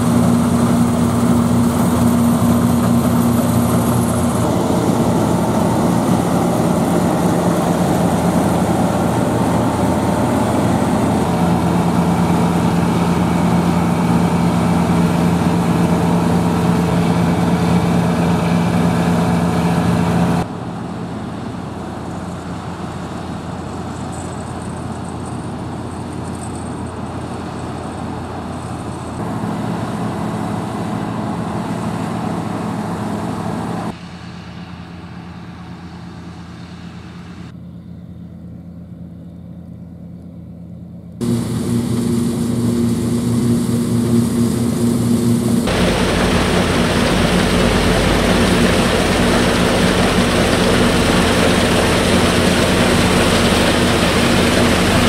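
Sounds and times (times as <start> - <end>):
combine harvester engine hum: 0.0 - 55.0.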